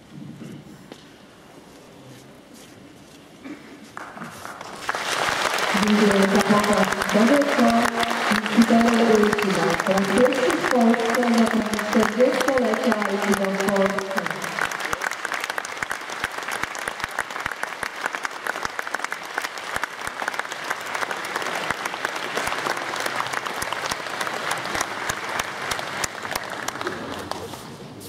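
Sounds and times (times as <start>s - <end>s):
audience applauding: 4.0s - 27.6s.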